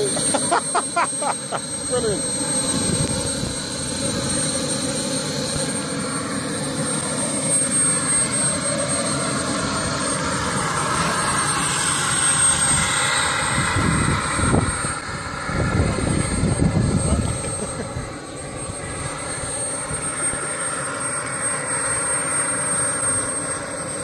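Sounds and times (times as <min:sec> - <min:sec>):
model jet turbine whine: 0:00.0 - 0:24.0.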